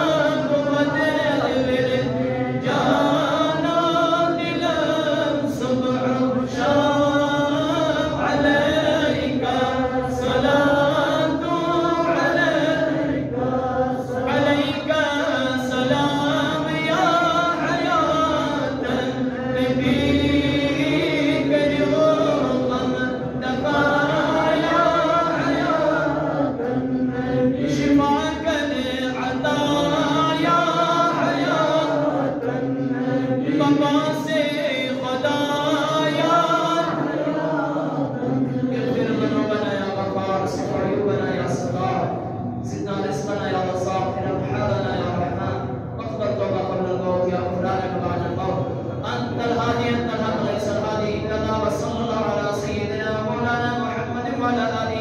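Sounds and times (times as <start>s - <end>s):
man chanting devotional recitation: 0.0s - 55.0s.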